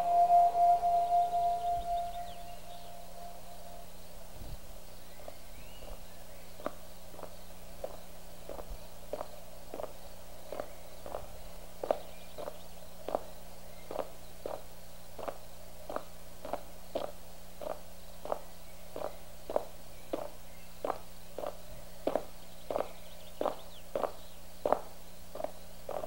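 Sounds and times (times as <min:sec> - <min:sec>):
steady low hum: 0:00.0 - 0:26.0
footsteps on paved street: 0:05.0 - 0:26.0.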